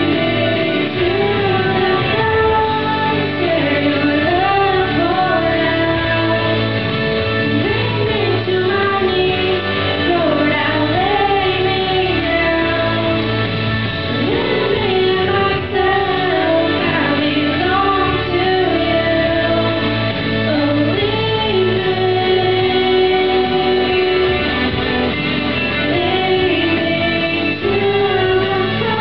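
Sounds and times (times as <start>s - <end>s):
girls singing into microphones: 0.0s - 24.9s, 25.7s - 29.0s
instrumental accompaniment: 0.0s - 29.0s.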